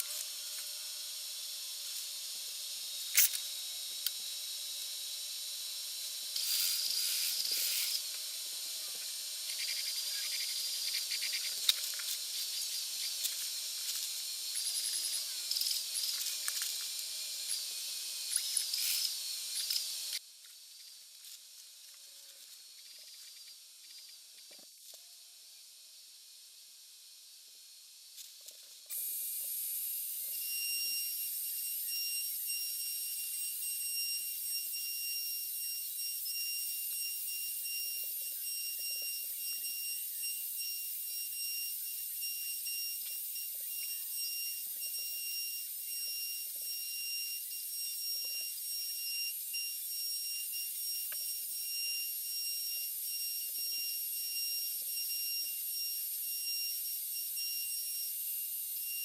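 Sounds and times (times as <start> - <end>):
router high-pitched whine: 0.0 - 20.3, 28.9 - 59.0.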